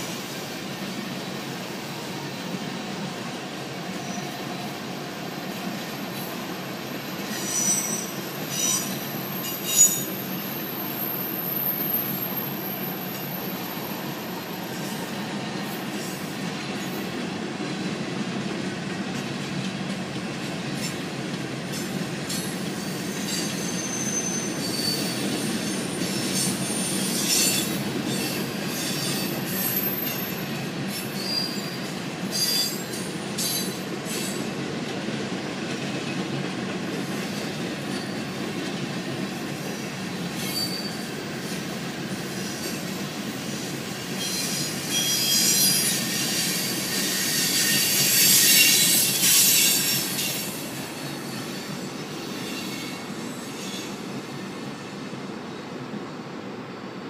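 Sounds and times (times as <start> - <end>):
train wheel squeal: 0.0 - 17.8, 19.1 - 56.0
rumble of train wheels on rail: 0.0 - 57.0.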